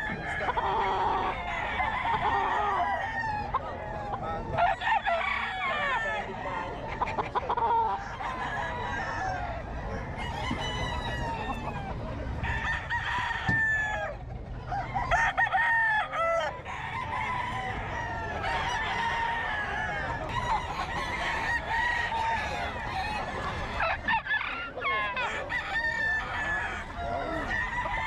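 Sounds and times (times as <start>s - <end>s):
chickens clucking: 0.0s - 28.0s
roosters crowing: 0.0s - 28.0s.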